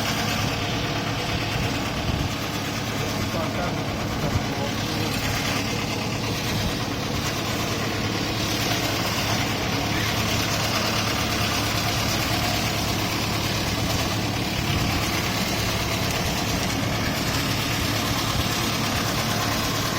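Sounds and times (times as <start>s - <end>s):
wood shaving machine running: 0.0s - 19.9s.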